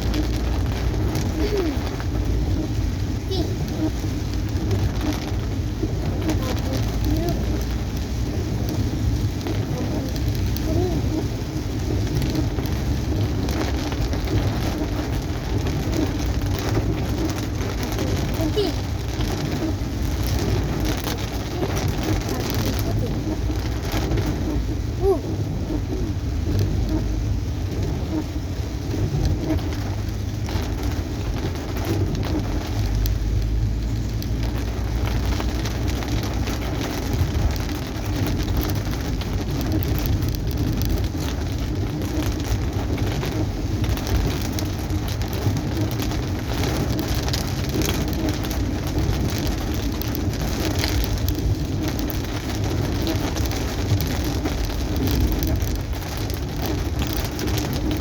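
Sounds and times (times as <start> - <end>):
rain pattering on a car: 0.0 - 58.0
tyres on wet road: 0.0 - 58.0.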